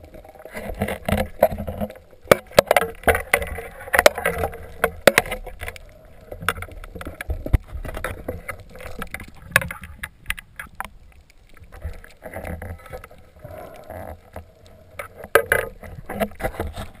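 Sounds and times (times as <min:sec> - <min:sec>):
low watery rumble: 0:00.0 - 0:17.0
underwater clicks and knocks: 0:00.0 - 0:17.0.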